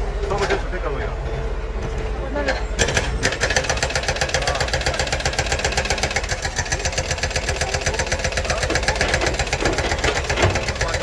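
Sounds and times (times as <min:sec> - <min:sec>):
excavator diesel engine clattering: 0:01.8 - 0:11.0.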